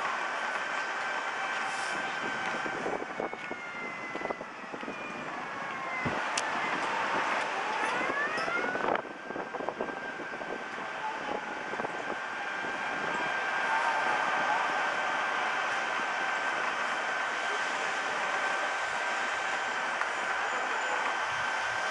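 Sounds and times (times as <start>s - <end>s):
road noise: 0.0s - 21.9s.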